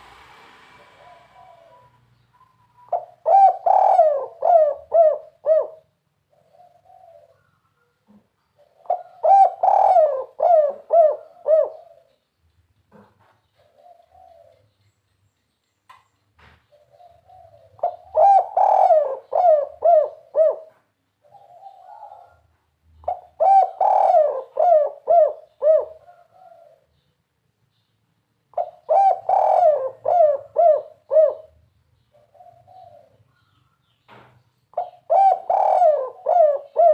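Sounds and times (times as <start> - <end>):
dove cooing: 0.8 - 12.2, 12.9 - 14.7, 16.6 - 27.0, 28.5 - 33.6, 34.7 - 36.9.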